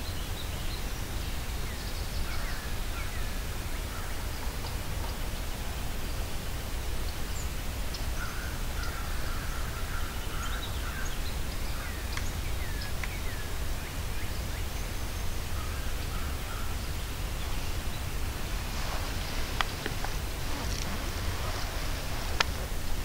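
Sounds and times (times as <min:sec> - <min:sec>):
steady hiss and rumble: 0:00.0 - 0:23.0.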